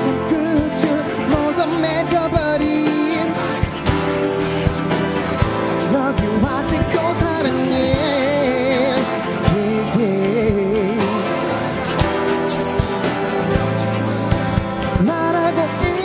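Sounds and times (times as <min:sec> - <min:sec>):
man singing wordless vocal runs: 0:00.0 - 0:16.0
pop ballad backing track: 0:00.0 - 0:16.0.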